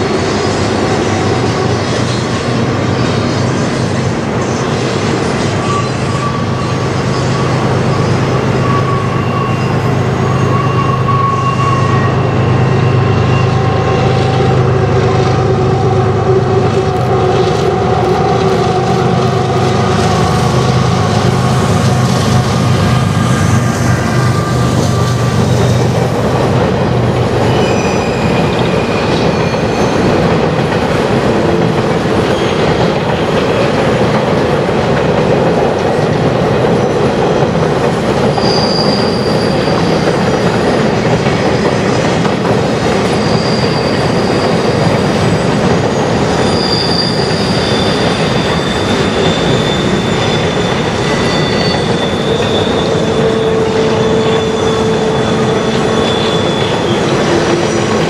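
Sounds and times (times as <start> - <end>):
diesel locomotive engine drone: 0.0 - 58.0
train wheels squealing and clattering: 0.0 - 58.0.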